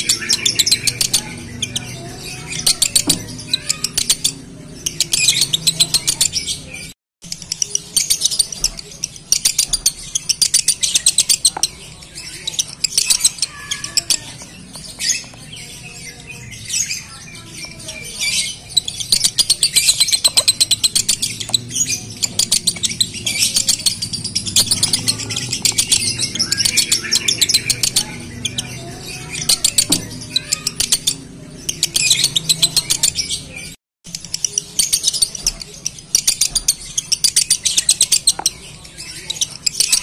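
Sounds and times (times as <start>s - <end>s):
lovebird chattering and trilling: 0.0s - 40.0s.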